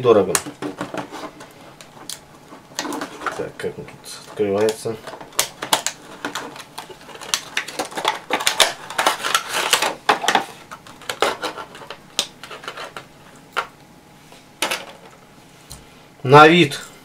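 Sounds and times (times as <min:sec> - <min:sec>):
plastic packaging crackling: 0:00.0 - 0:13.8.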